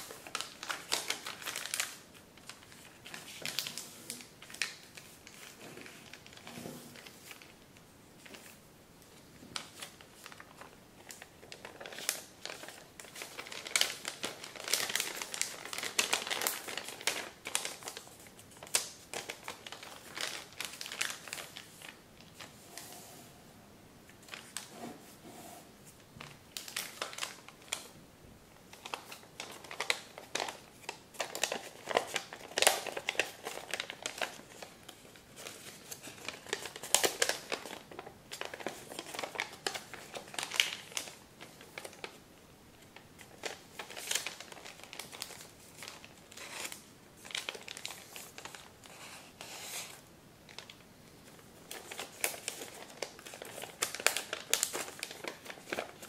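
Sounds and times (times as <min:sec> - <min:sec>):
paper rustling and crinkling: 0:00.0 - 0:07.6, 0:08.2 - 0:08.6, 0:09.4 - 0:23.2, 0:24.2 - 0:27.9, 0:28.7 - 0:42.2, 0:42.8 - 0:56.0.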